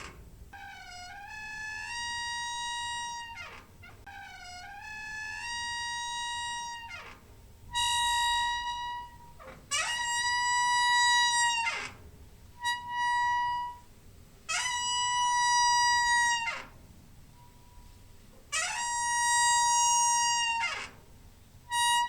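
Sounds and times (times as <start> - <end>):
squeaking door hinge: 0.0 - 13.9, 14.5 - 21.1.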